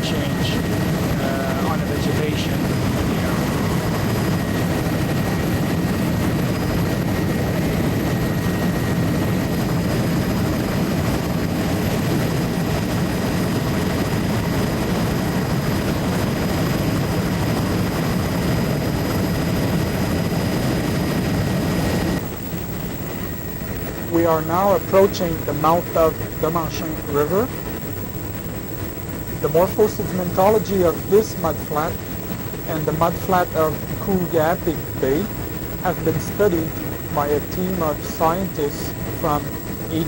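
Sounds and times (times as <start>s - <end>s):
aircraft engine drone: 0.0s - 40.0s
faint steady whine: 0.0s - 40.0s.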